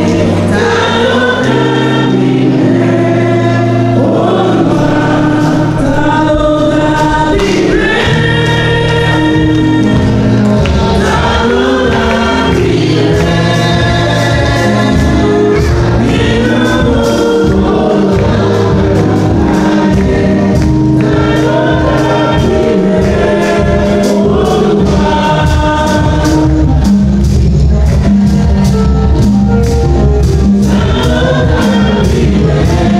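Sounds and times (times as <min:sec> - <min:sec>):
choir singing gospel: 0:00.0 - 0:32.9
instrumental backing with beat: 0:00.0 - 0:32.9.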